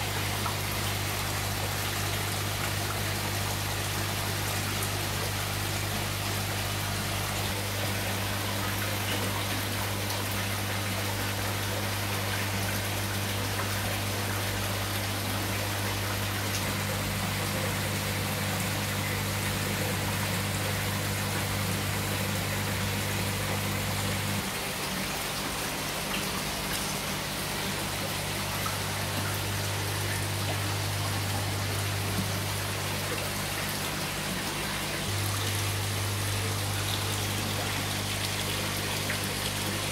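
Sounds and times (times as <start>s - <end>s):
low hum of pumps: 0.0s - 39.9s
water bubbling and trickling: 0.0s - 39.9s.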